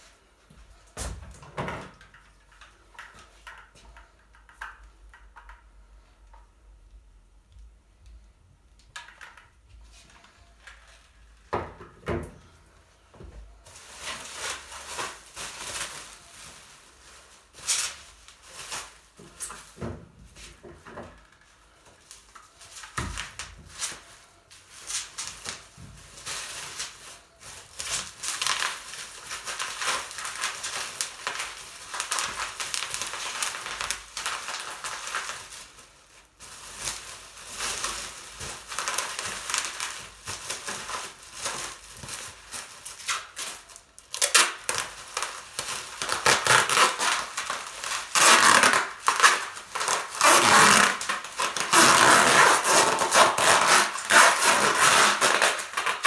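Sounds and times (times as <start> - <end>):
rustling and crinkling: 8.9 - 56.0.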